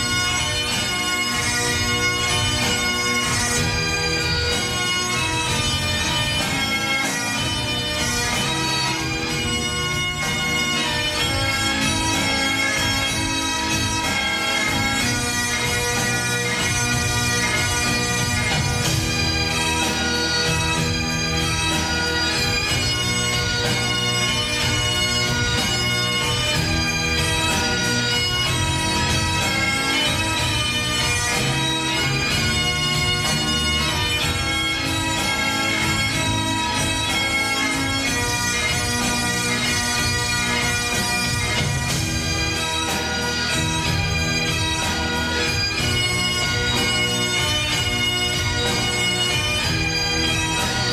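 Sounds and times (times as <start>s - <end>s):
bagpipe drones: 0.0s - 50.9s
bagpipes playing a tune: 0.0s - 50.9s.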